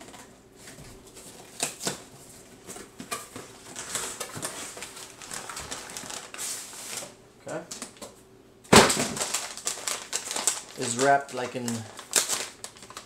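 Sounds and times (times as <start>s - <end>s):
crinkling of paper packing: 0.0s - 8.0s, 8.7s - 13.0s.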